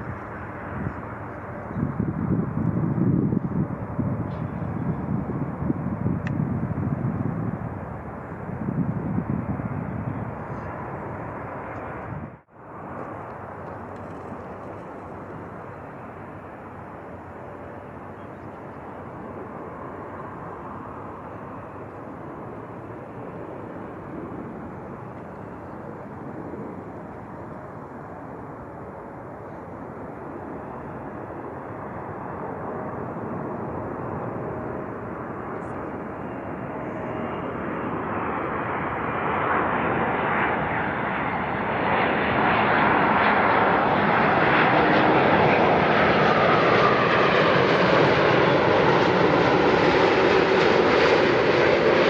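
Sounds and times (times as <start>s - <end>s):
jet engine rumble: 0.0s - 52.0s.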